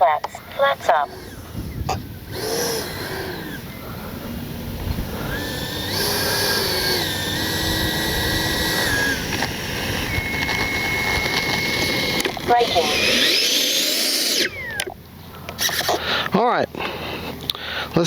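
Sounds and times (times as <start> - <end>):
electric ducted fan whining: 0.0 - 18.0.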